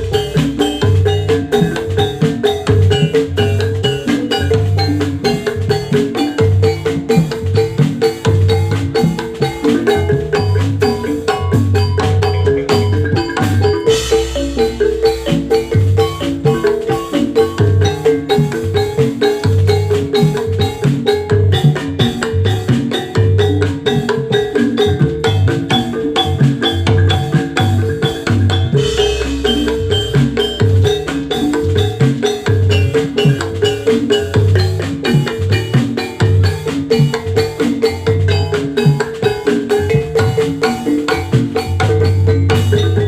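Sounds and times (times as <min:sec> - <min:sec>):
low drum beats: 0:00.0 - 0:43.0
metallophones interlocking pattern: 0:00.0 - 0:43.0.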